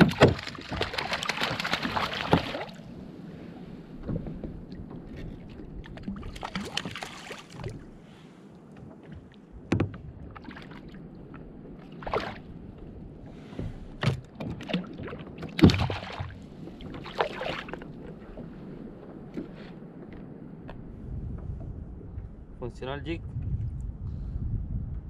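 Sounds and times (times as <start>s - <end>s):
water lapping against kayak hull: 0.0s - 22.6s.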